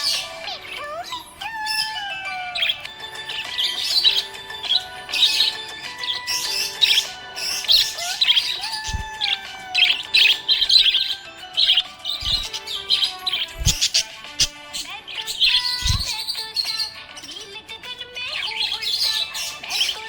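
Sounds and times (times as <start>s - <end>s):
background music with held notes: 0.0s - 20.0s
budgerigar chirping and warbling: 0.0s - 20.0s.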